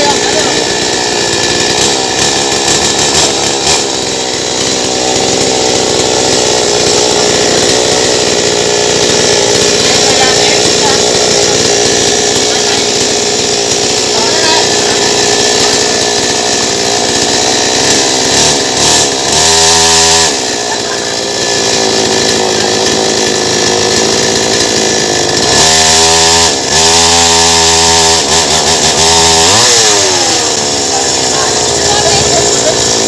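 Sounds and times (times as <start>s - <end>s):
two-stroke engine revving: 0.0s - 33.0s.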